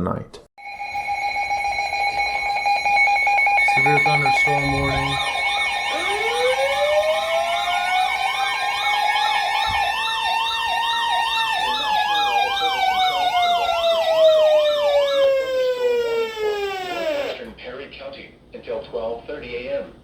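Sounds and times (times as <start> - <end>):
quick sweeping siren tone: 0.6 - 17.4
slow wailing siren: 0.6 - 17.5.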